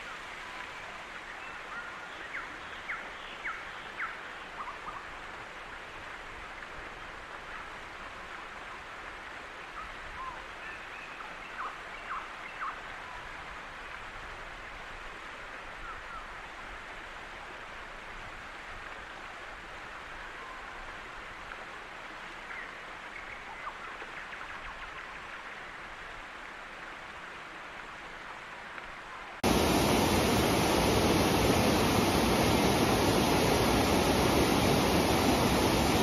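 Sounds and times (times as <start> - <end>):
waterfall and stream rushing: 0.0 - 36.0.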